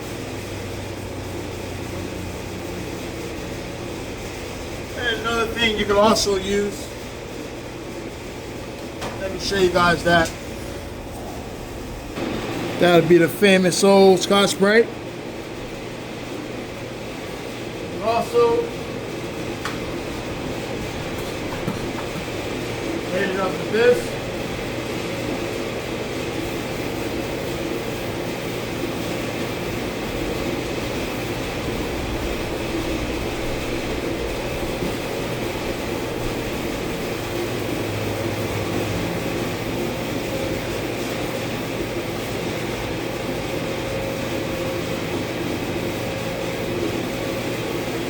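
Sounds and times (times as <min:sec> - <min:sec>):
steady mechanical hum: 0:00.0 - 0:48.0.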